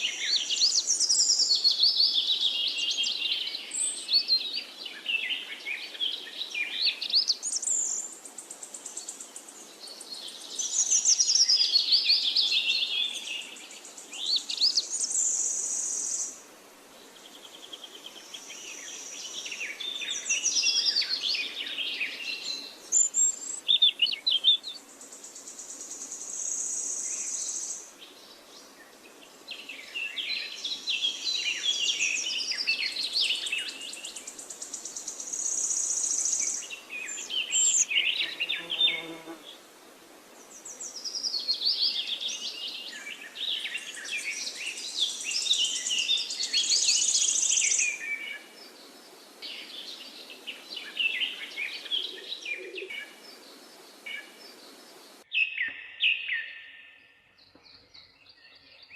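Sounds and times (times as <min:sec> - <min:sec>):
birds singing and chirping: 0:00.0 - 0:16.4, 0:17.2 - 0:39.5, 0:40.4 - 0:58.9.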